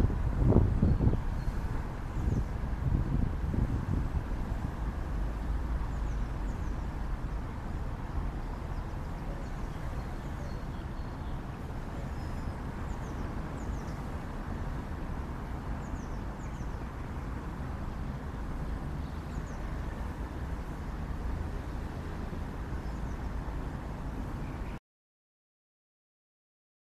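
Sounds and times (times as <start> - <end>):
low outdoor rumble: 0.0 - 24.7.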